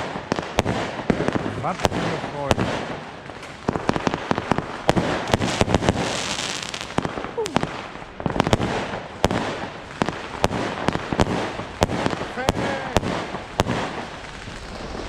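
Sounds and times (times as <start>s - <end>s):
firecrackers banging: 0.0s - 15.0s
hissing crackle of fireworks: 0.0s - 15.0s.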